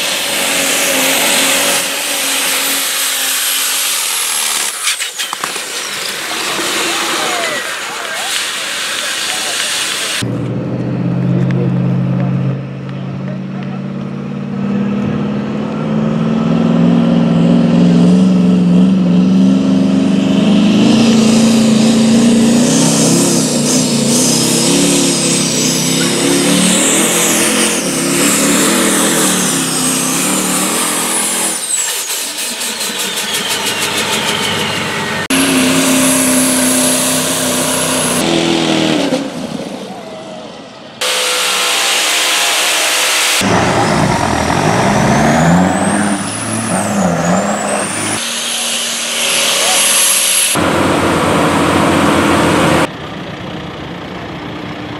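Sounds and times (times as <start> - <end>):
diesel pickup engine under load: 0.0 - 41.4, 43.1 - 54.9
other vehicle engines: 0.0 - 54.9.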